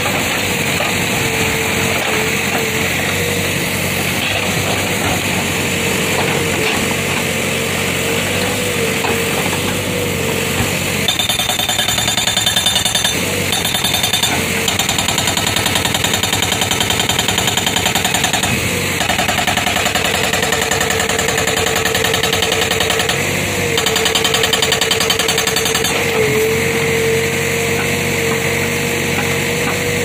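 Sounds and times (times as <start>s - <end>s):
backhoe engine running: 0.0s - 30.0s
hydraulic breaker hammering rock: 0.0s - 30.0s.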